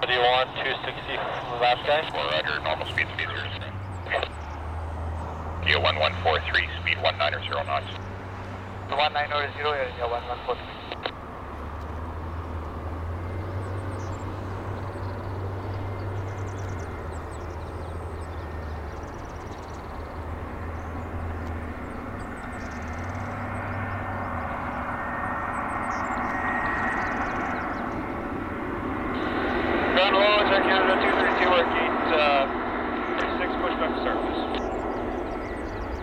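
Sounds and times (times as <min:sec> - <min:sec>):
faint engine whine: 0:00.0 - 0:36.0
jet engine rumble: 0:00.0 - 0:36.0.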